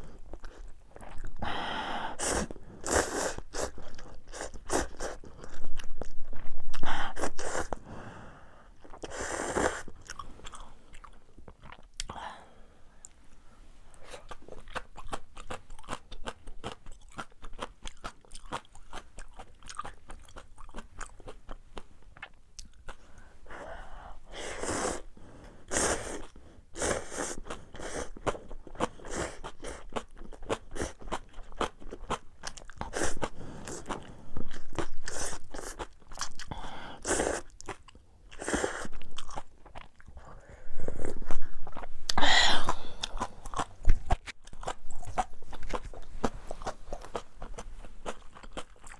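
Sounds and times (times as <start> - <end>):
chewing with crunches: 0.0 - 1.5, 2.2 - 7.9, 8.7 - 12.2, 13.9 - 23.7, 24.6 - 48.9.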